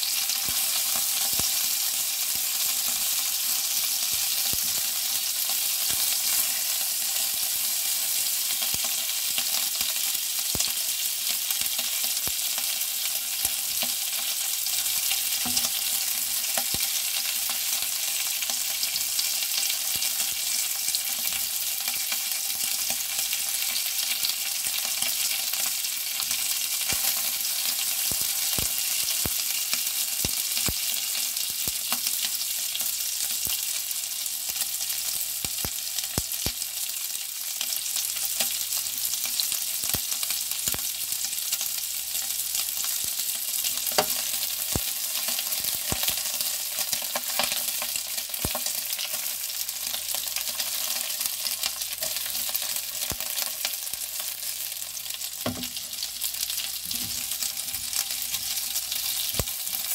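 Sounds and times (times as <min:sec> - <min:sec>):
sausages sizzling in a frying pan: 0:00.0 - 0:59.9.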